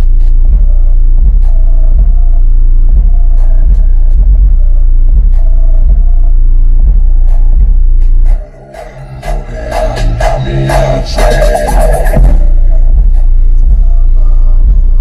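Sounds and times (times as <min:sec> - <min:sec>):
loud subwoofer bass music: 0:00.0 - 0:15.0.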